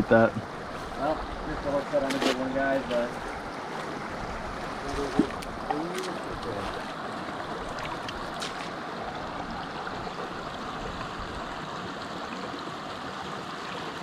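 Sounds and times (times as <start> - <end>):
stream flowing over rocks: 0.0 - 14.0.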